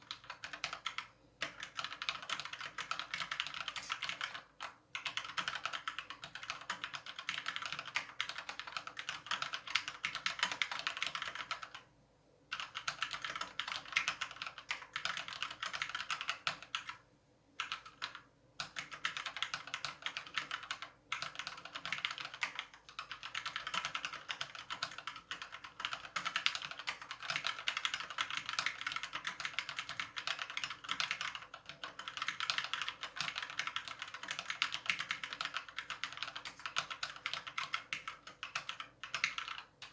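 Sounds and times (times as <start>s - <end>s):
fast mechanical keyboard typing: 0.0s - 11.9s, 12.5s - 17.0s, 17.6s - 39.9s.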